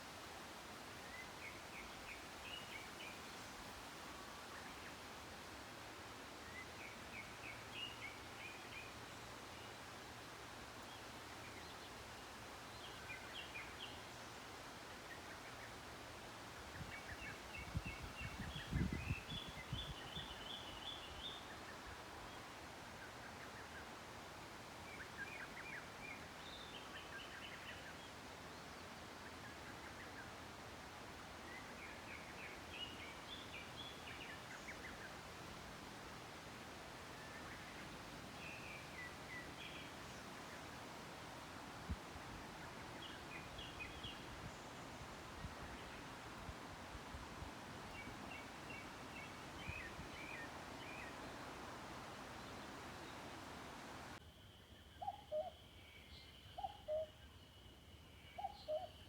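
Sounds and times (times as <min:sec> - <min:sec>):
faint outdoor background: 0:00.0 - 0:59.0.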